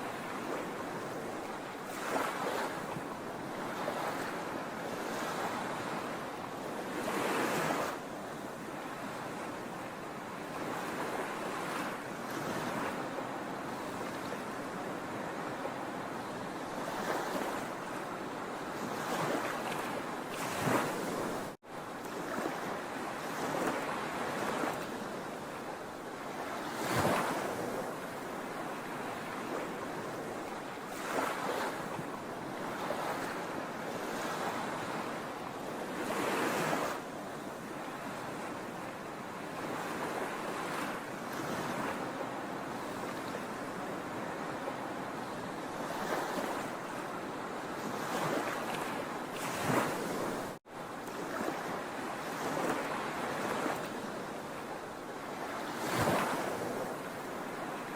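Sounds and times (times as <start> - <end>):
sea waves breaking on shore: 0.0 - 57.9.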